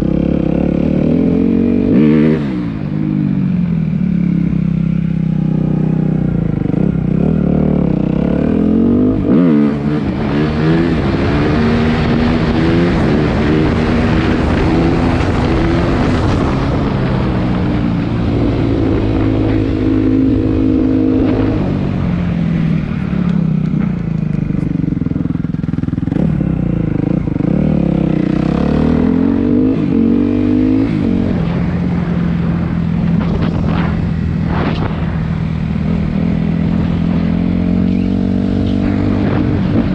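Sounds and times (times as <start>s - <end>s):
steady rushing noise: 1.6s - 39.9s.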